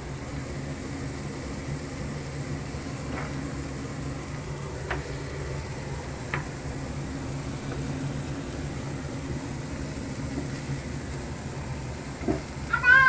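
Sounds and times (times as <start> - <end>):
kitchen hum and hiss: 0.0 - 13.0.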